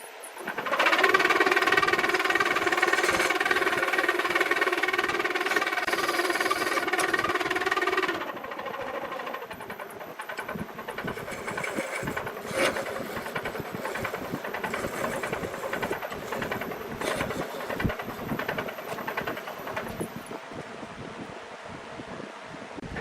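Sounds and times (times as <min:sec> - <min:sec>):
wood lathe grinding: 0:00.3 - 0:20.4.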